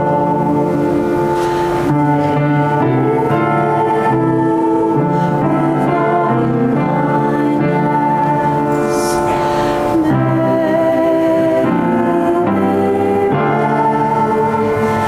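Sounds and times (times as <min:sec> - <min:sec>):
keyboard music with held chords: 0:00.0 - 0:15.0.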